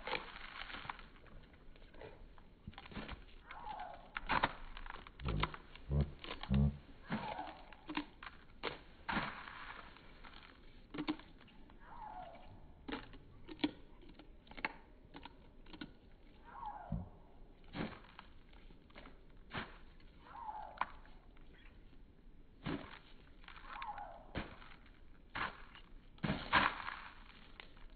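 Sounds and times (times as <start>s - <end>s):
hens pecking and crunching cereal: 0.0s - 27.9s.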